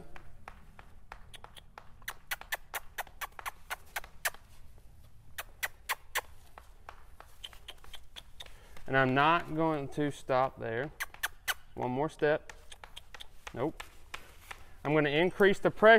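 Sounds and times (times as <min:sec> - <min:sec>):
crop tapping on horse: 0:00.0 - 0:15.9.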